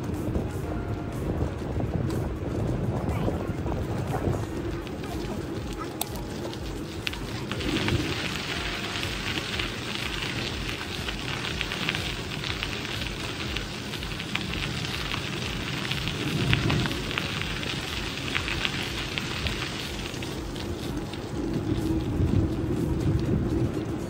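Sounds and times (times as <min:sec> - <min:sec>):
bicycle tyres on gravel: 0:00.0 - 0:24.0
wind on microphone: 0:00.0 - 0:24.0.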